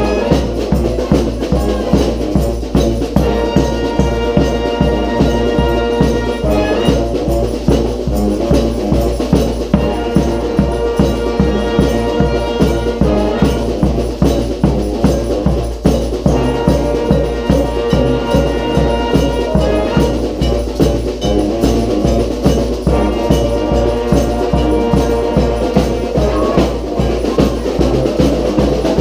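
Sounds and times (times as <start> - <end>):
bass drum steady beat: 0.0 - 29.0
brass band playing rock tune: 0.0 - 29.0.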